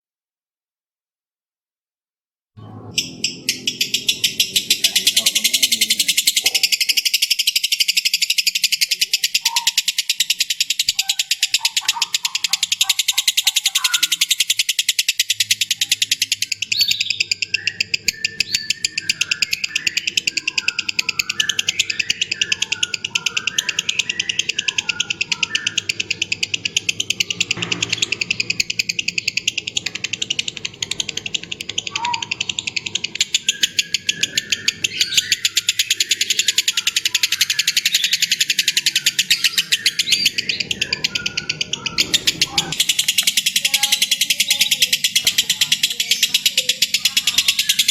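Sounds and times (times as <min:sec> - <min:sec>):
birds chirping: 0:02.6 - 0:47.9
fast steady trill: 0:02.6 - 0:47.9.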